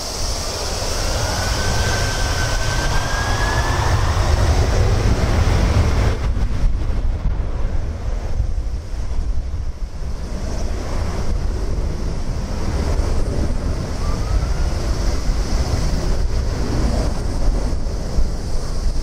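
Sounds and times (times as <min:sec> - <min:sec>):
jet engines roaring at takeoff: 0:00.0 - 0:19.0
wind buffeting microphone: 0:00.0 - 0:19.0.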